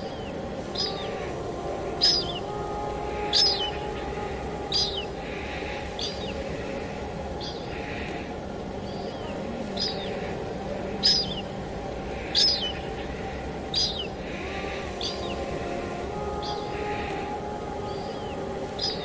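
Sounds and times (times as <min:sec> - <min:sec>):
soft background tone: 0:00.0 - 0:19.0
steady rain: 0:00.0 - 0:19.0.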